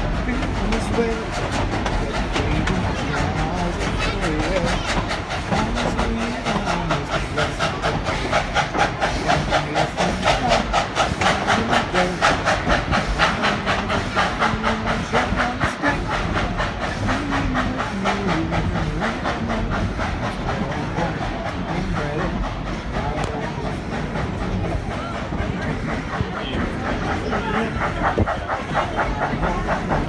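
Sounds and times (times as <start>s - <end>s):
steam hiss: 0.0s - 30.0s
steam locomotive exhaust chuffing: 0.0s - 30.0s.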